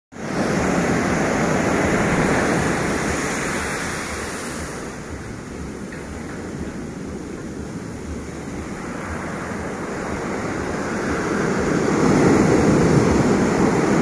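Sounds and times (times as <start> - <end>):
surf breaking on sandy beach: 0.2 - 14.0.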